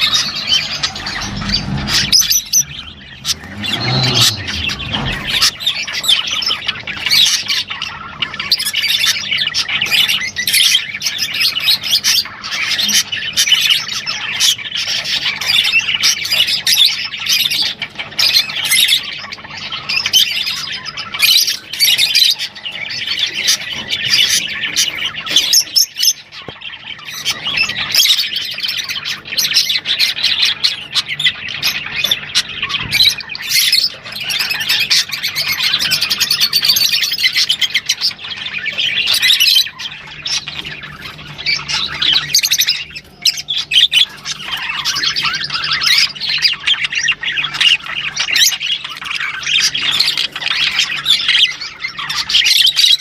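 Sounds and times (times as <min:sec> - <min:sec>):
lovebirds chattering and squawking: 0:00.0 - 0:53.0.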